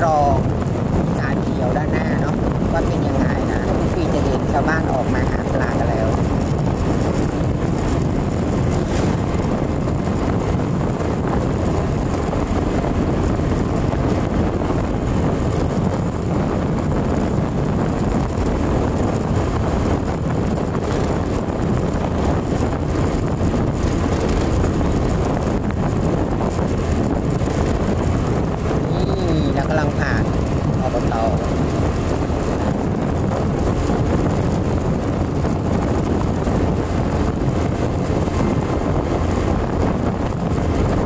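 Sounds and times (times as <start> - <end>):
motorcycle engine running: 0.0 - 41.0
wind rushing over microphone: 0.0 - 41.0.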